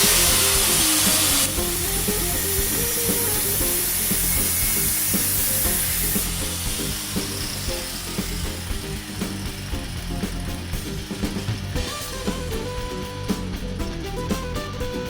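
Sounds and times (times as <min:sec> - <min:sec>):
steady hiss: 0:00.0 - 0:13.8
background music: 0:00.0 - 0:15.0.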